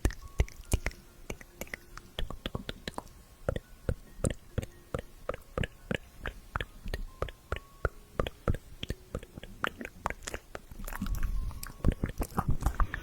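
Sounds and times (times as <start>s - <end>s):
wet mouth clicks and smacks: 0.0s - 3.6s, 5.3s - 13.0s.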